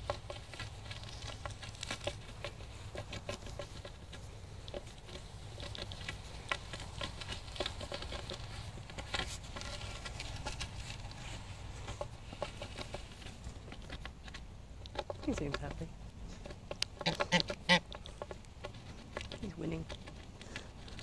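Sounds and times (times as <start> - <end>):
goose bill clicking on wooden stick: 0.0 - 21.0.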